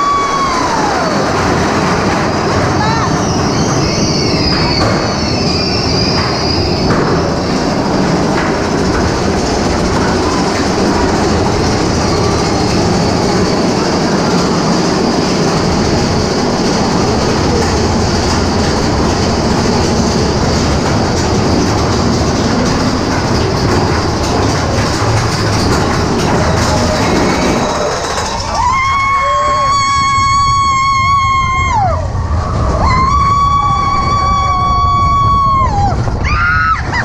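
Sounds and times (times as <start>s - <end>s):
roller coaster wheels rumbling on rails: 0.0s - 37.0s
rapid track clicks: 0.2s - 36.9s.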